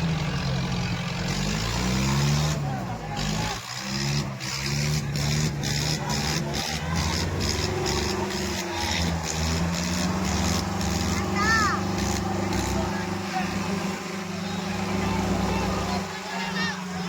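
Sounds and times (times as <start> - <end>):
tractor engines running under load: 0.0 - 17.0.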